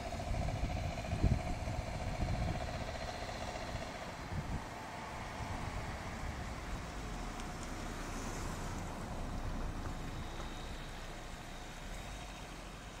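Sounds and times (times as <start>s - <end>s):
distant diesel engine running: 0.0s - 13.0s.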